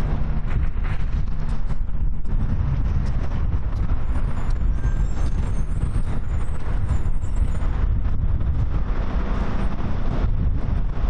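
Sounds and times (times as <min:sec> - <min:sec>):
steady low rumble: 0:00.0 - 0:11.0
wind buffeting microphone: 0:00.0 - 0:11.0.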